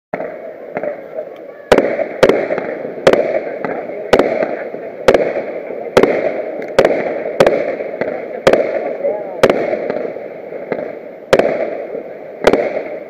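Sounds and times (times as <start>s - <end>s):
fireworks bangs: 0.1s - 13.0s
steady noisy background: 0.2s - 13.0s.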